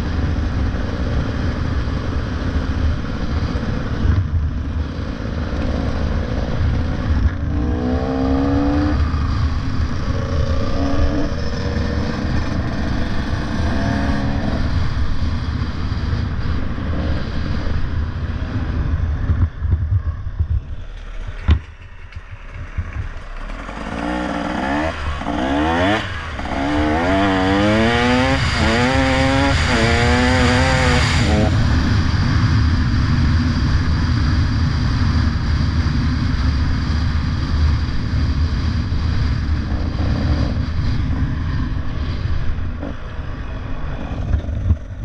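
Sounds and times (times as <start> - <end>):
motorcycle engine accelerating: 0.0 - 45.0
wind rumble: 0.0 - 45.0.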